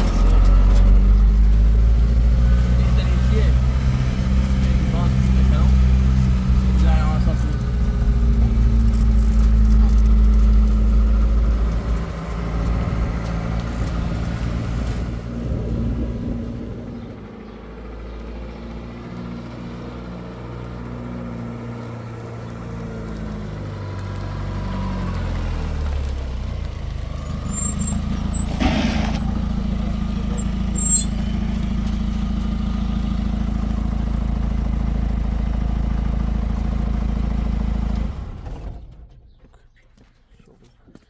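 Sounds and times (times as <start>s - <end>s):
vehicle engine running: 0.0s - 39.3s.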